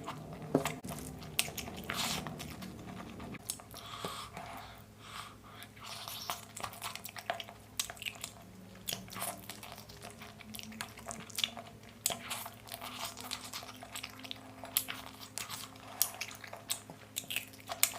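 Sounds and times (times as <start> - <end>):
crunchy chewing: 0.0 - 4.4, 5.8 - 17.9.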